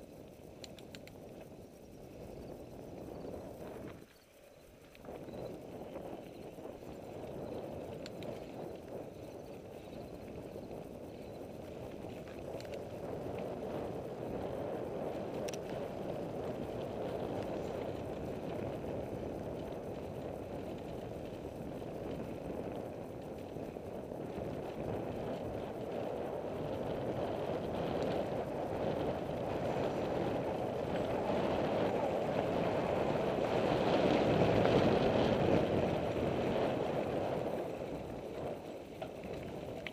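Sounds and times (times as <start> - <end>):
bicycle tyre rumble on dirt: 0.0 - 39.9
wind on microphone: 0.0 - 39.9.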